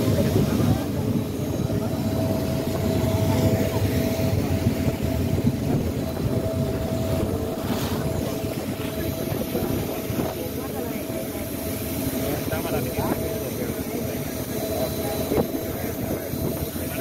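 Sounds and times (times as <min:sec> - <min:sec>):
boat diesel engine rumble: 0:00.0 - 0:17.0
wake churning along hull: 0:00.0 - 0:17.0.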